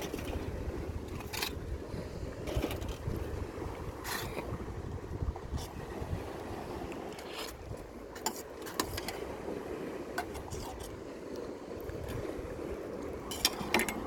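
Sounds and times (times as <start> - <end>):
sea noise: 0.0 - 14.0
wind: 0.0 - 14.0.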